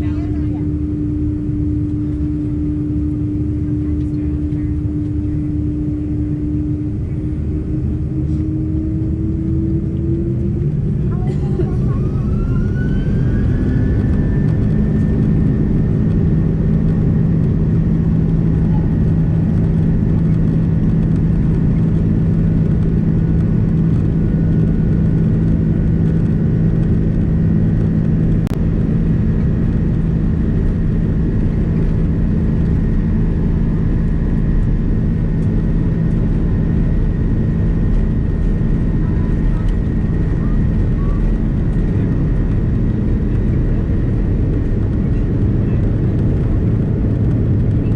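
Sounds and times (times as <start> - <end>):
jet engines droning and whining: 0.0 - 47.9.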